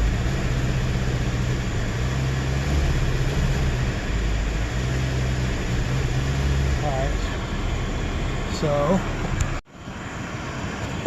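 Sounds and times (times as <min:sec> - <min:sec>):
car engine running rough: 0:00.0 - 0:11.0.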